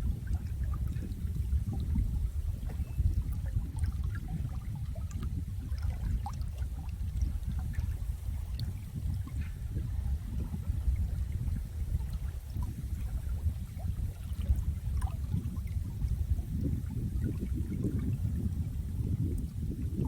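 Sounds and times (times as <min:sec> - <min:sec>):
water dripping and bubbling: 0:00.0 - 0:20.0.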